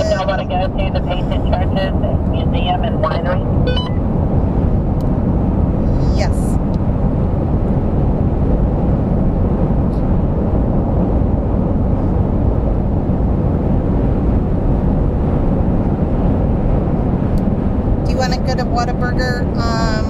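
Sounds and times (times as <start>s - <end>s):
truck cab road and engine rumble: 0.0s - 20.0s.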